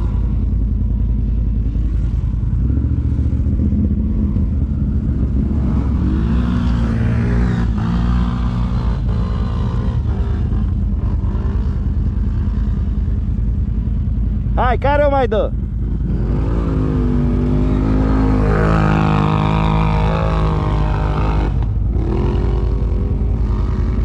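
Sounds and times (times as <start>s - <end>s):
atv engine revving: 0.0s - 24.0s.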